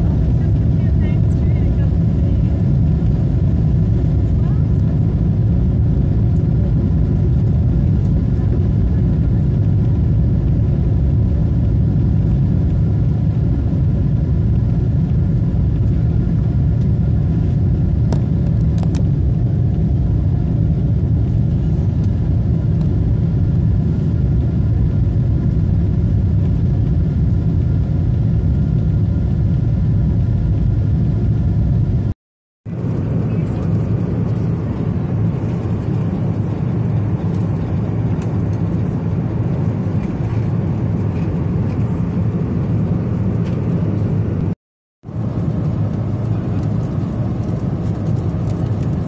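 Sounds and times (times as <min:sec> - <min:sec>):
airliner engines and airflow rumble: 0:00.0 - 0:49.0.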